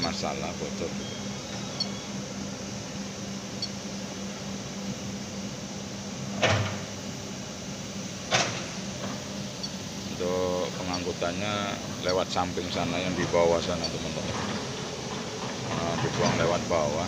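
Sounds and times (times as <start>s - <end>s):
industrial machinery hum: 0.0s - 17.0s.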